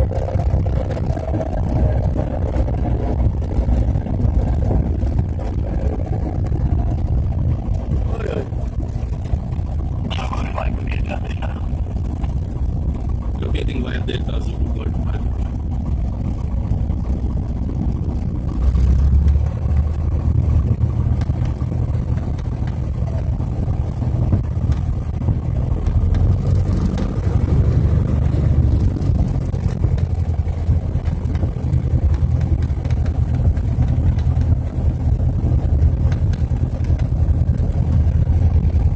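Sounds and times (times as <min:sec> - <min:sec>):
aircraft engines rumbling on landing: 0:00.0 - 0:38.9.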